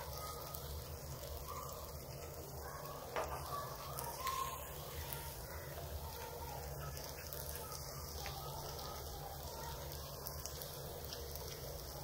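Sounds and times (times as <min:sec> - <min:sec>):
sweets frying in hot ghee: 0:00.0 - 0:12.0.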